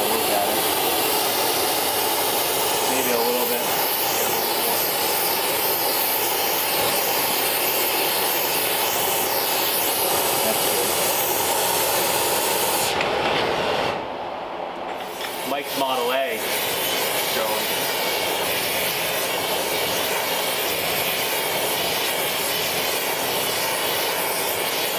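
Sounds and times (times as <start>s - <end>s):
torch flame hissing: 0.0s - 14.2s, 14.8s - 24.9s.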